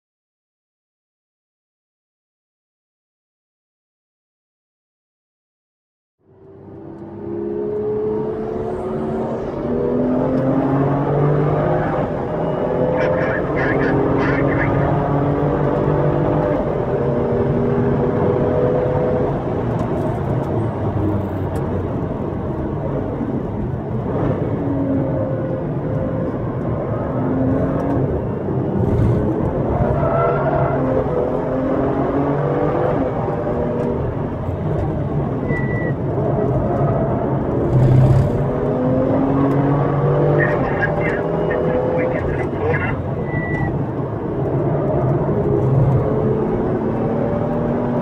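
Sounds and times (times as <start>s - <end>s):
road and tyre noise: 6.2s - 48.0s
car engine revving in cabin: 6.4s - 48.0s.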